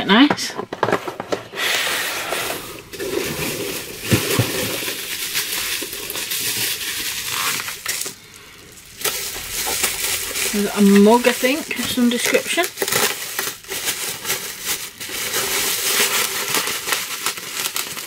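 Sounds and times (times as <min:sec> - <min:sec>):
packaging rustling and crinkling: 0:00.6 - 0:18.0.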